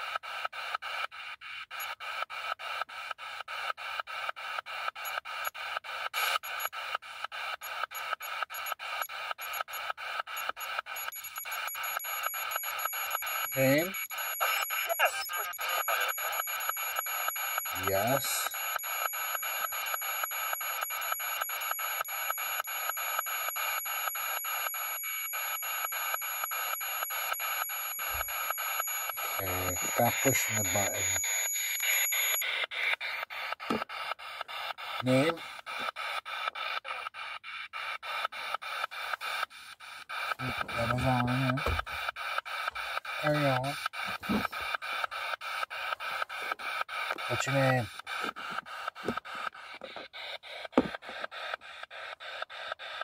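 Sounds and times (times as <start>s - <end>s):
choppy radio static bursts: 0.0s - 53.0s
rapid even clicks: 0.0s - 53.0s.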